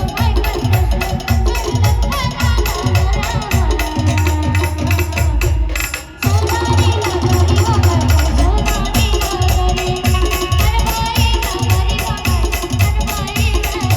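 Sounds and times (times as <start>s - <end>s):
heavy drum beats: 0.0s - 13.9s.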